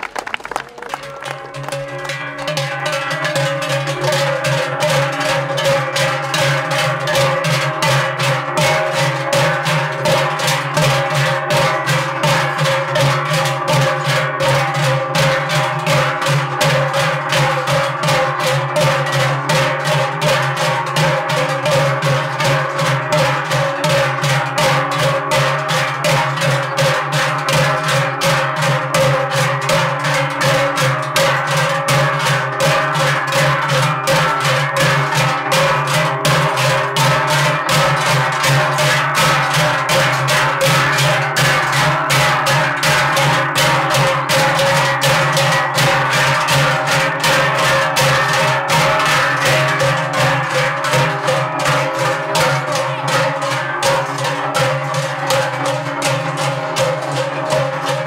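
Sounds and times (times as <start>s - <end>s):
large cowbells ringing in rhythm: 0.8s - 58.0s.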